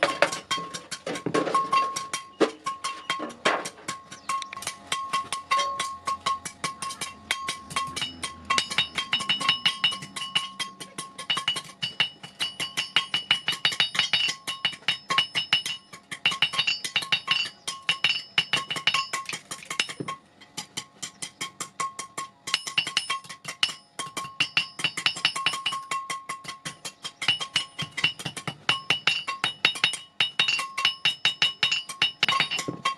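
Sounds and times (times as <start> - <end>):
hammer striking metal on anvil: 0.0 - 32.9.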